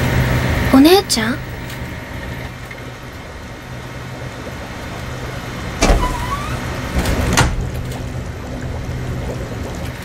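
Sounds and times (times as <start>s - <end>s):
low electrical machinery hum: 0.0s - 10.0s.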